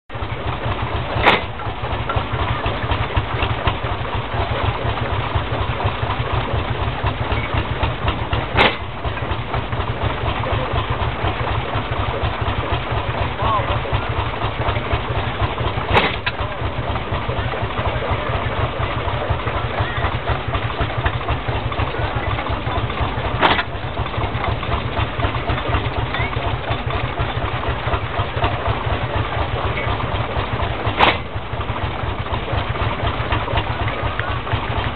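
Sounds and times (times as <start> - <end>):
steam engine running: 0.1 - 34.9.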